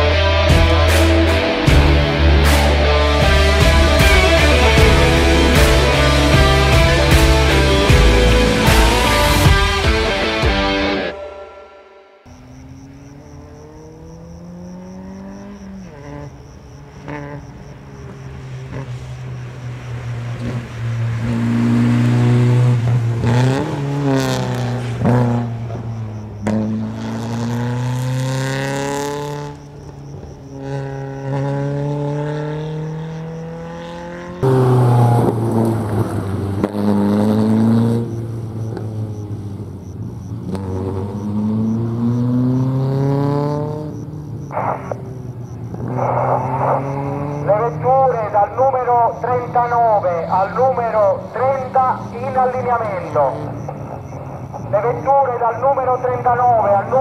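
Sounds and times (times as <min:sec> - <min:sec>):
rally car engine at full throttle: 0:00.0 - 0:11.1, 0:12.2 - 0:57.0.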